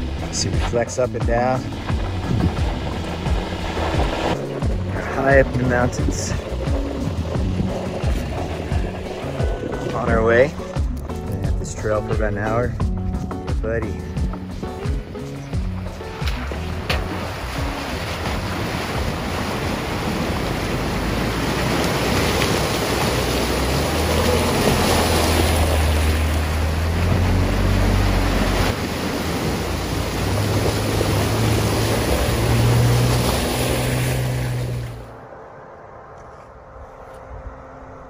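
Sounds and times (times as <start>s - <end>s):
water splashing around tyres: 0.0s - 11.3s, 15.0s - 35.1s
engines humming: 0.0s - 38.0s.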